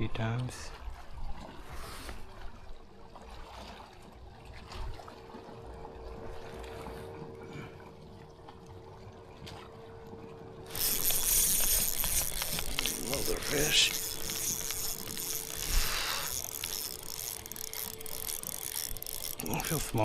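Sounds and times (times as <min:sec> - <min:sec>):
water lapping around kayak: 0:00.0 - 0:20.0.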